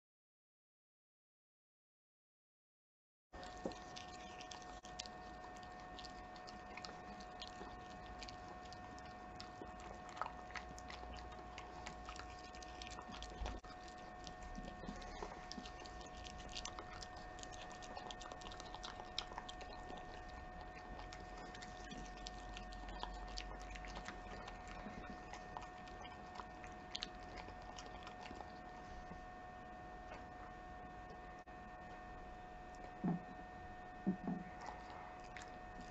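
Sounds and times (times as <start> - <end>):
dog chewing and licking food: 3.4 - 31.3, 34.0 - 35.9.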